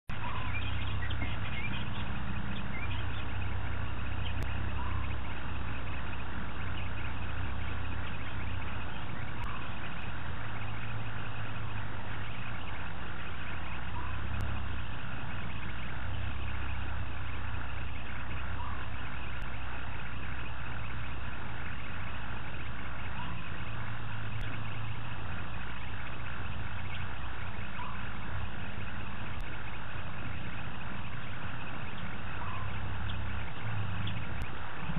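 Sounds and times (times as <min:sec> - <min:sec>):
frogs croaking: 0:00.1 - 0:34.9
night insects: 0:00.1 - 0:34.9
vehicle engine humming: 0:00.1 - 0:34.9.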